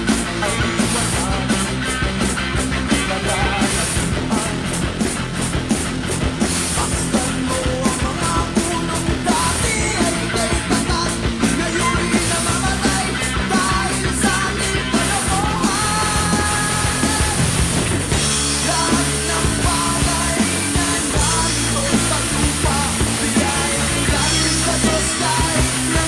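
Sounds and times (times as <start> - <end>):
drum kit beat with cymbals: 0.0 - 26.0
rock song recording: 0.0 - 26.0.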